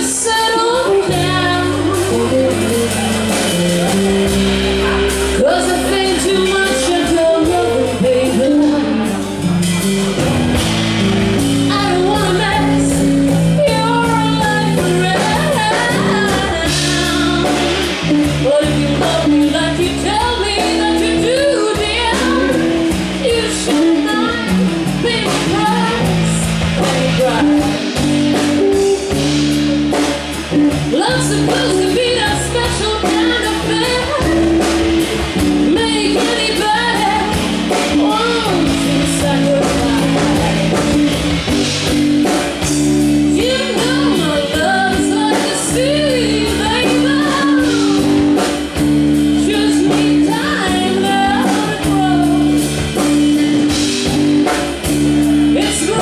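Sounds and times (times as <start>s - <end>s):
woman singing: 0.0s - 9.5s, 11.4s - 54.7s, 55.3s - 56.0s
live blues band playing: 0.0s - 56.0s.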